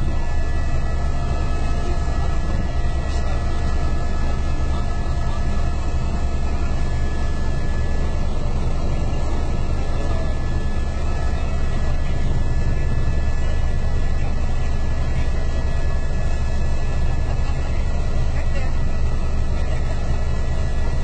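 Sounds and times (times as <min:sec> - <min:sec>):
faint steady whine: 0:00.0 - 0:21.0
helicopter rotor and engine drone: 0:00.0 - 0:21.0.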